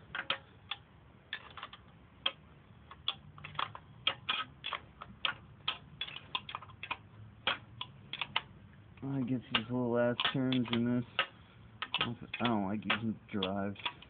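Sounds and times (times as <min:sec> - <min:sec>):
ratchet wrench clicking: 0:00.1 - 0:08.5, 0:09.5 - 0:14.0.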